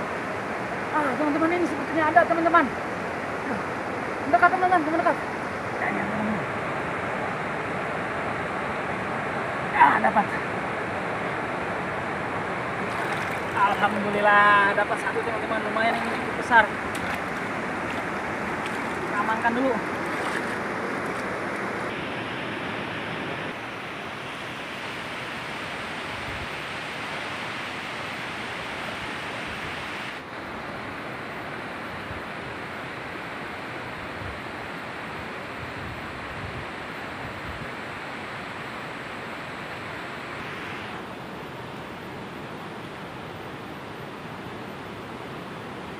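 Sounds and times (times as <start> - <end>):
flowing river water: 0.0 - 45.9.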